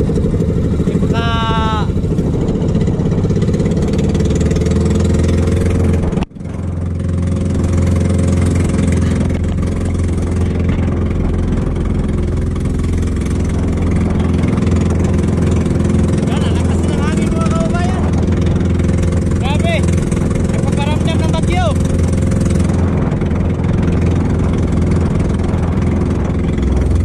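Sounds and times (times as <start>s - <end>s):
boat engine running: 0.0s - 27.0s
wind and water noise: 0.0s - 27.0s.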